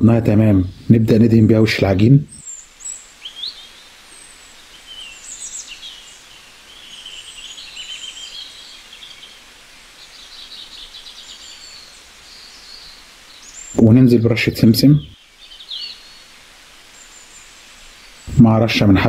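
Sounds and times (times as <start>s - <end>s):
faint steady hiss: 0.0s - 19.0s
small birds chirping: 0.0s - 19.0s.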